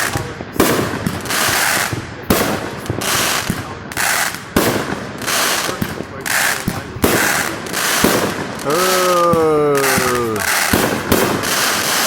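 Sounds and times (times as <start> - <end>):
crackling hiss of fireworks: 0.0 - 12.0
fireworks bangs: 0.0 - 12.0.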